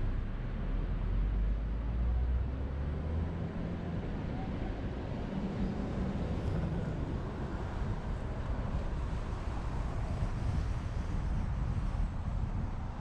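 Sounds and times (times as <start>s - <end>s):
car driving road noise: 0.0s - 13.0s.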